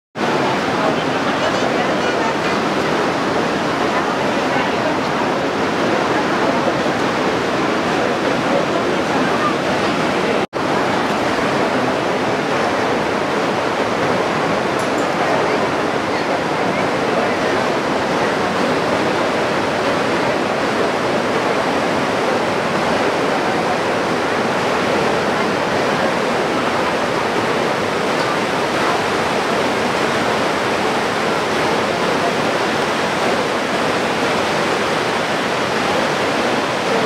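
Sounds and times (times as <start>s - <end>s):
river rushing over rocks: 0.2s - 37.0s.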